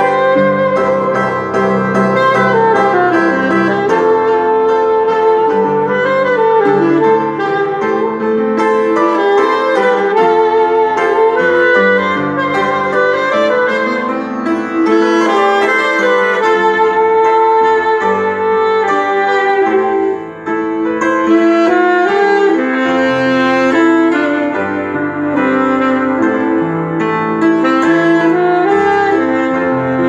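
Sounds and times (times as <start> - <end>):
saxophone melody: 0.0 - 30.0
upright piano chords: 0.0 - 30.0.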